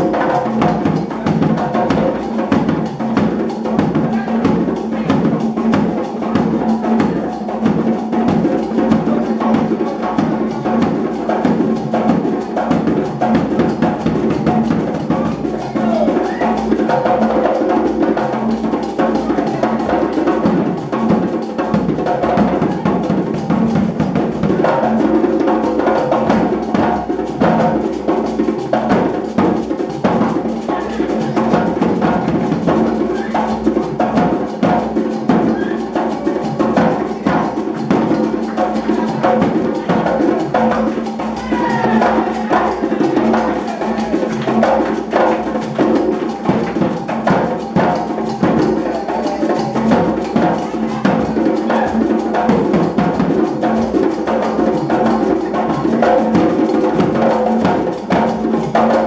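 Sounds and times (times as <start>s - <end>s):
hand drums playing: 0.0s - 59.0s.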